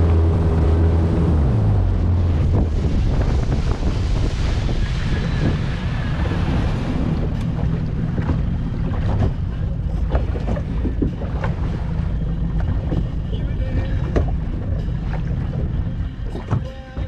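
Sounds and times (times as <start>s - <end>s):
wind buffeting microphone: 0.0s - 16.6s
outboard motor running: 0.0s - 17.0s
water slapping on hull: 0.0s - 17.0s.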